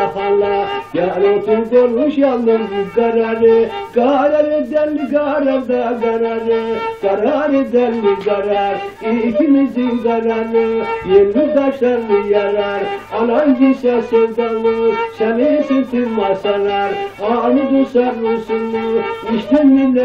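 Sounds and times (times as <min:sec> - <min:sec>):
folk melody in held notes: 0:00.0 - 0:20.0.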